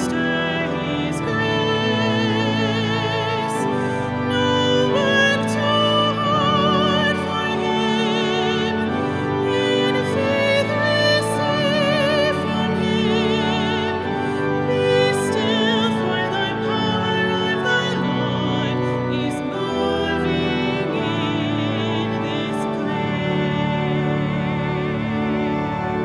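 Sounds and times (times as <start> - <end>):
high melody with wide vibrato: 0.0 - 26.0.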